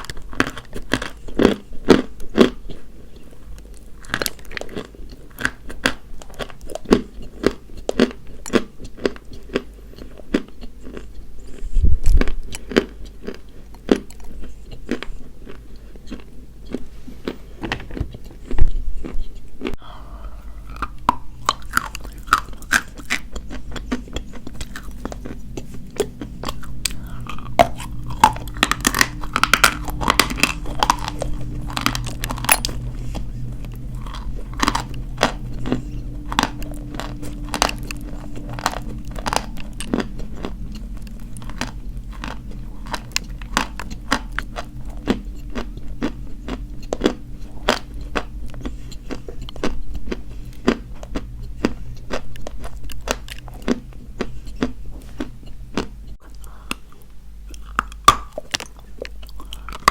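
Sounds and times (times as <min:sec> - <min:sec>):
chalk crunching while chewed: 0:00.0 - 0:59.9
low steady hum: 0:00.0 - 0:59.9.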